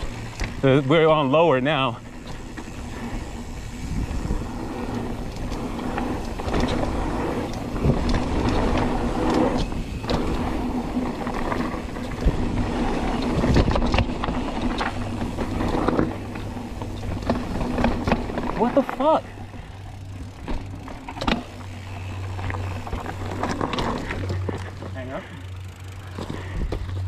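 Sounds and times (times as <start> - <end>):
bike knocking and rattling: 0.0 - 27.0
tyres rumbling over dirt: 0.0 - 27.0.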